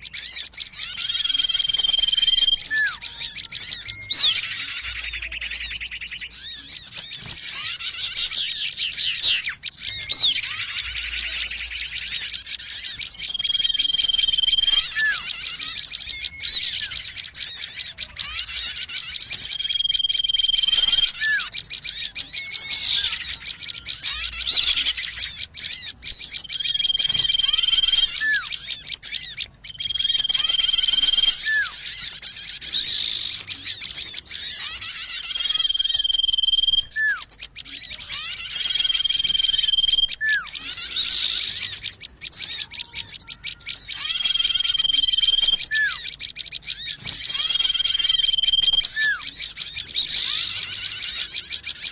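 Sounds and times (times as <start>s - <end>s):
small birds chirping and twittering: 0.0s - 51.9s.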